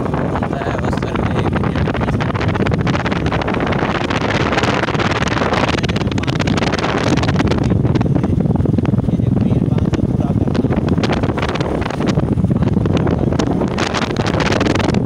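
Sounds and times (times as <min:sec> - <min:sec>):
vehicle running and road noise: 0:00.0 - 0:15.0
wind buffeting microphone: 0:00.0 - 0:15.0.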